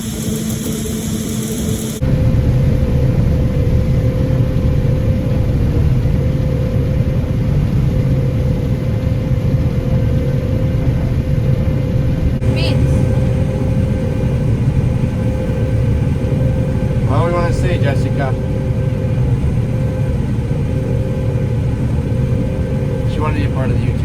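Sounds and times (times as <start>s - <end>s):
heavy machinery engine rumbling: 0.0s - 24.0s.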